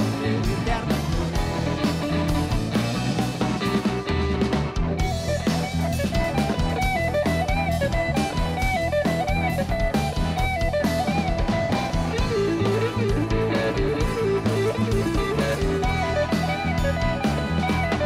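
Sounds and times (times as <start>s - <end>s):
blues-rock band playing: 0.0s - 18.0s
wavering bending lead notes: 0.0s - 18.0s.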